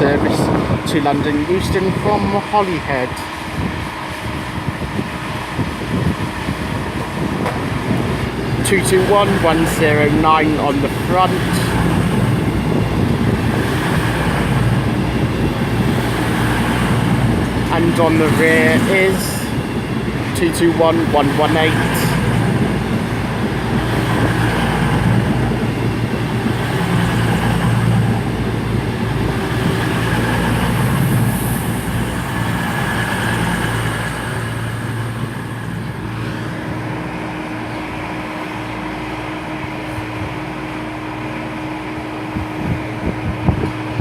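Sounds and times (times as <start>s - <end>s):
diesel train engines humming: 0.0s - 44.0s.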